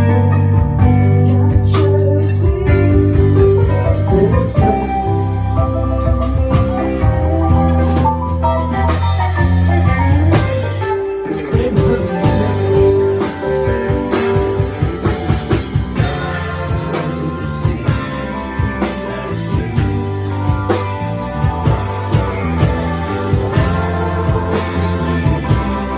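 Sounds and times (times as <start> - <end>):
rock band playing: 0.0 - 25.9
steady drum beat: 0.0 - 25.9.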